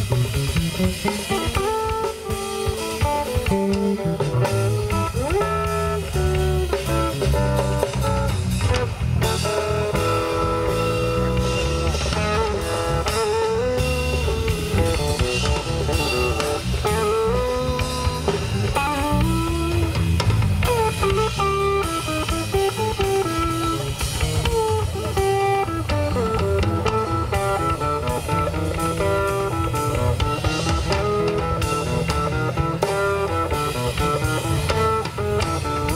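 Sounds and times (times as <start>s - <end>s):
drum kit: 0.0s - 35.9s
electric bass: 0.0s - 35.9s
electric guitar lead melody: 0.0s - 35.9s.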